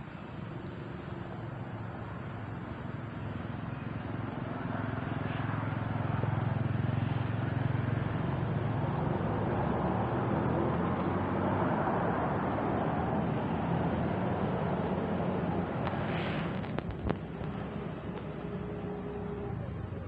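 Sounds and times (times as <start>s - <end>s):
low motor rumble and hum: 0.0s - 20.0s.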